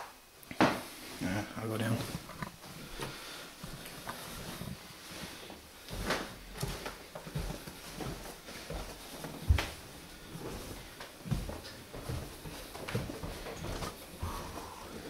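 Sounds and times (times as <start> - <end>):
footsteps going down stairs: 1.8 - 15.0.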